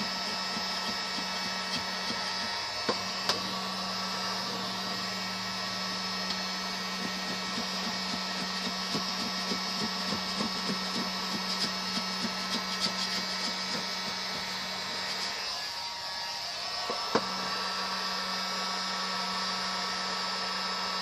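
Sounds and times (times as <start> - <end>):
hot-air blower humming: 0.0 - 21.0.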